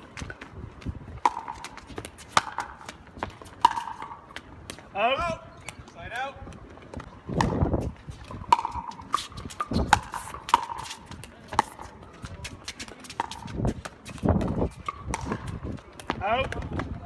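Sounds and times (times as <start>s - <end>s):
wind buffeting microphone: 0.0s - 3.4s, 5.2s - 17.0s.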